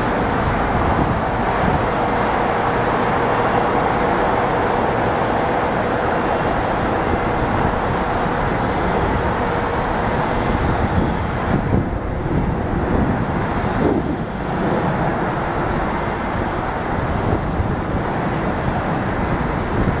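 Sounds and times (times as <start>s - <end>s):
distant jet engines rumbling: 0.0s - 20.0s
road traffic noise: 0.0s - 20.0s.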